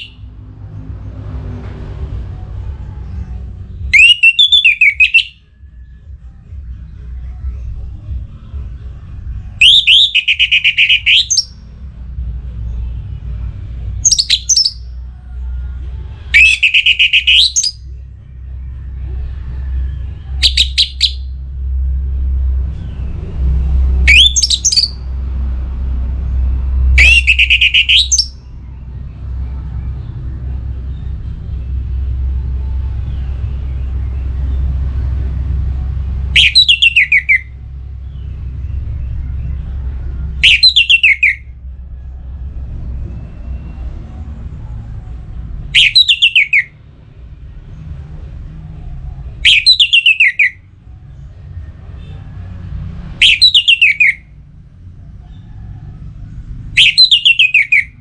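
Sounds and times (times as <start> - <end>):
steady low rumble: 0.0 - 4.4, 5.0 - 53.2
thrush singing: 0.0 - 58.0.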